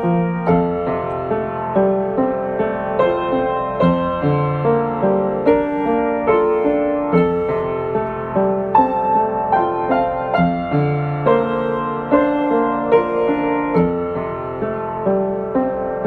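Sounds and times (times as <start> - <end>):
slow solo piano piece: 0.0 - 16.0.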